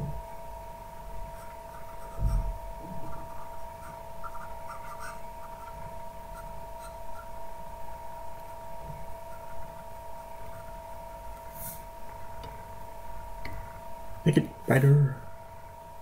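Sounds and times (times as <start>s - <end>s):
two-pitched electrical whine: 0.0s - 16.0s.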